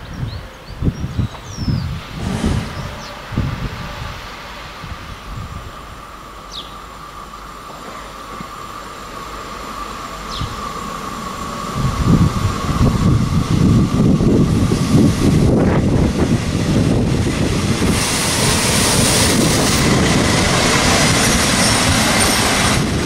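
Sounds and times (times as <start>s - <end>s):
train high whine: 0.0s - 23.0s
train wheels rumbling on rails: 0.0s - 23.0s.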